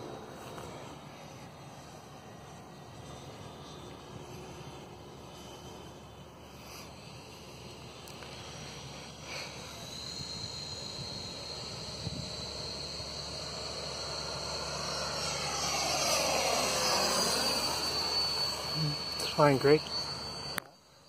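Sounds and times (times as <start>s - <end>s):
model jet engine whine: 0.0s - 21.0s.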